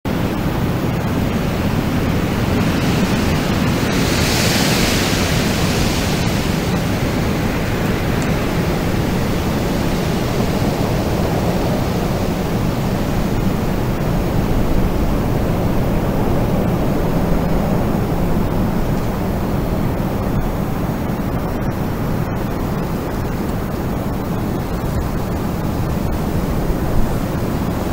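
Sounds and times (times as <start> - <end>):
wind blowing: 0.1 - 27.9.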